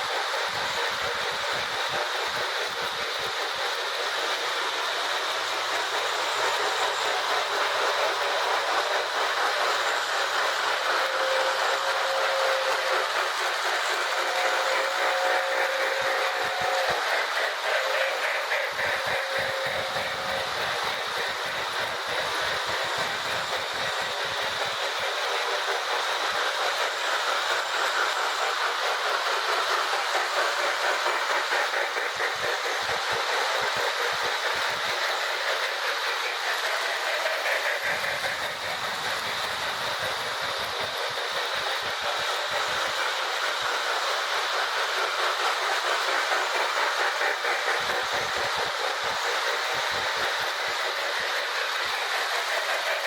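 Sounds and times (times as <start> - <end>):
toy train wheels clattering on rails: 0.0 - 53.0.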